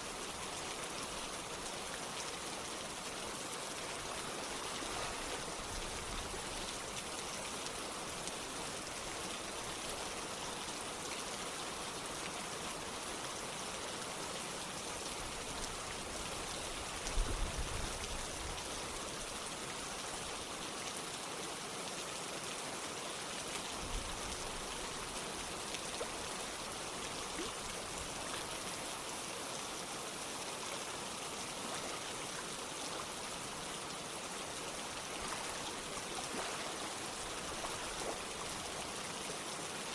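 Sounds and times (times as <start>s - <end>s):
falling rain: 0.0s - 39.9s
running water: 0.0s - 39.9s.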